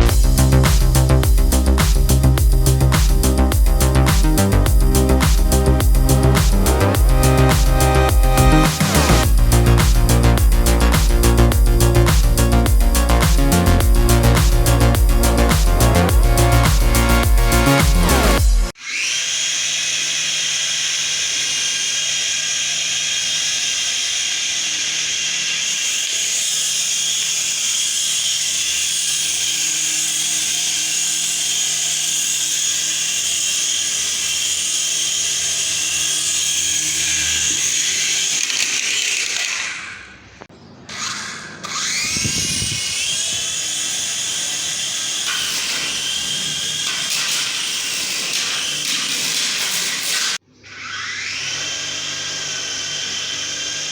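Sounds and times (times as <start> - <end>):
small electric motor whining: 0.0 - 40.3, 40.9 - 53.9.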